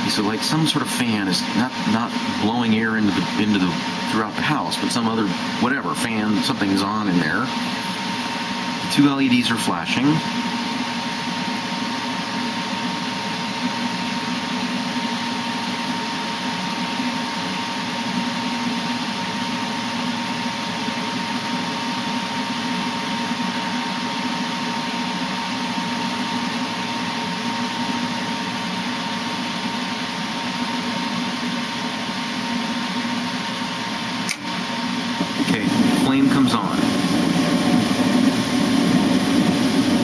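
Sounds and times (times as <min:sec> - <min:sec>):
furnace fan whirring: 0:00.0 - 0:40.0.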